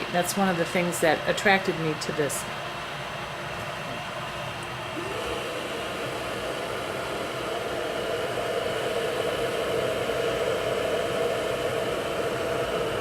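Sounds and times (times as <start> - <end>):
electric kettle heating water: 0.0 - 13.0.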